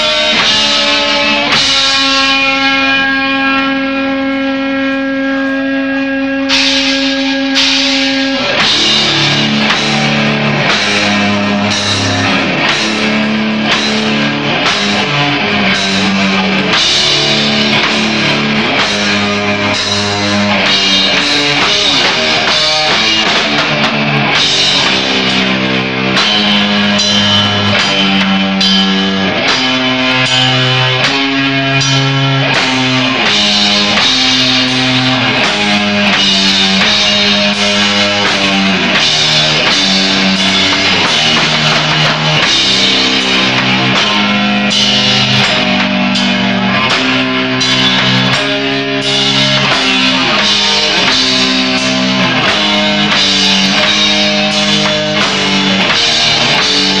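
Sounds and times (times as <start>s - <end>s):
distorted electric guitars and bass: 0.0s - 57.0s
pounding drum kit and cymbals: 0.0s - 57.0s.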